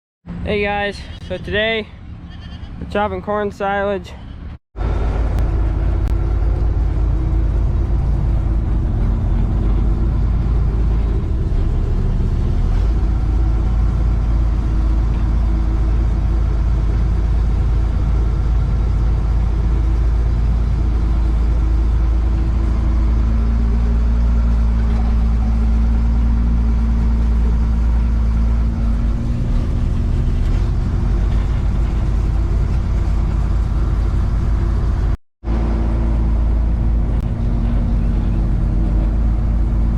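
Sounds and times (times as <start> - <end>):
heavy farm machinery engine drone: 0.3 - 39.9.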